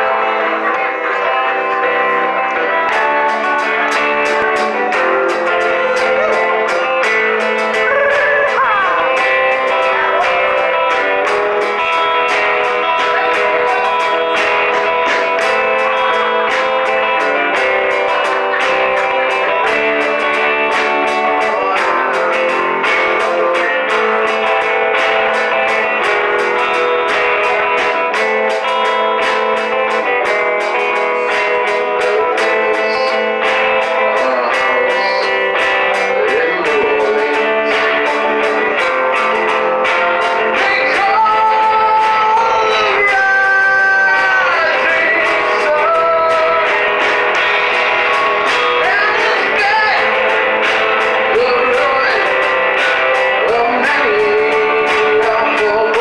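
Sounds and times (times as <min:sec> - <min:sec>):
strummed guitars: 0:00.0 - 0:56.0
steady drum beat: 0:02.8 - 0:56.0.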